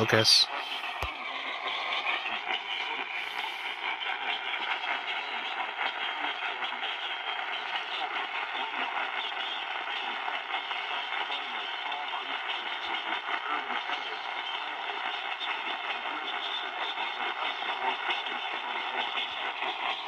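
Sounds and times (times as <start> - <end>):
faint garbled broadcast voice: 0.0 - 20.0
radio static and hiss: 0.0 - 20.0.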